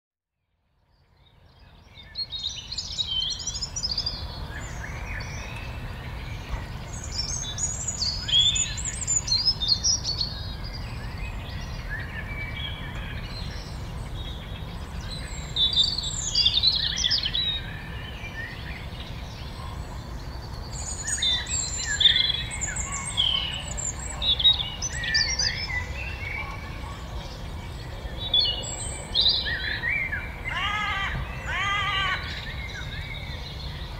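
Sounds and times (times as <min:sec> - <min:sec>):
songbirds chirping and trilling: 0:00.6 - 0:33.9.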